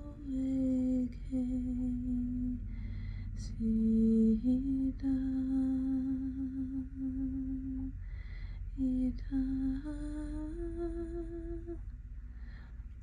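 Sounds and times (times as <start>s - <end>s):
woman singing wordless syllables: 0.0s - 2.7s, 3.3s - 8.0s, 8.7s - 11.8s.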